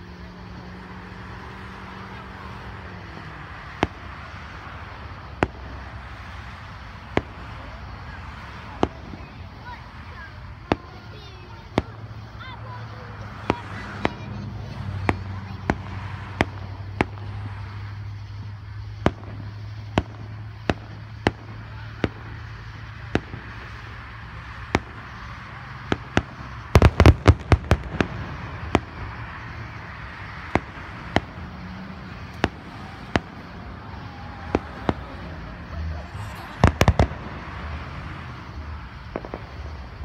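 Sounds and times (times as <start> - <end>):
distant fireworks bangs: 0.0 - 40.0.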